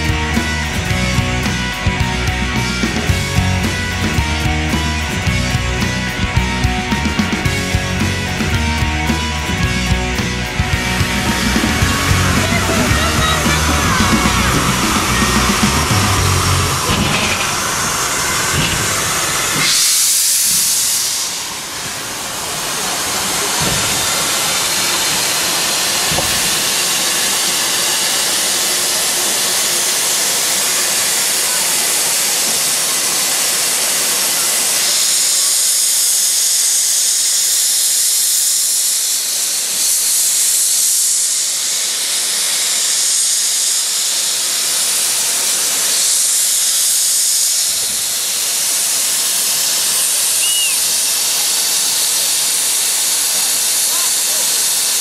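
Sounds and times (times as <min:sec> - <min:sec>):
steam locomotive hissing: 0:00.0 - 0:55.0.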